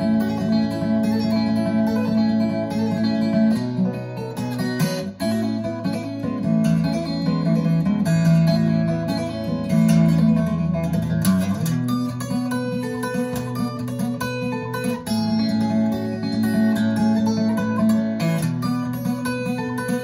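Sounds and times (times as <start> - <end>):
instrumental music with plucked guitar: 0.0 - 20.0.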